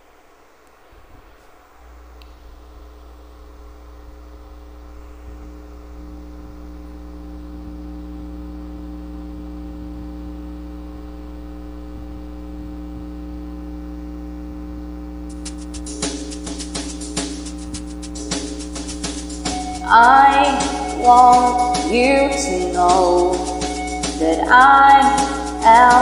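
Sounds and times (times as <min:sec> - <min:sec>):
droning held chord: 0:00.9 - 0:26.0.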